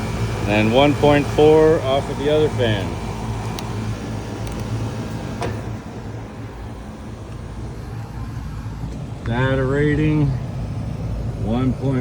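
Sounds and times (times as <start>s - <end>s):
airflow noise: 0.0s - 12.0s
condenser fan motors humming: 0.0s - 12.0s.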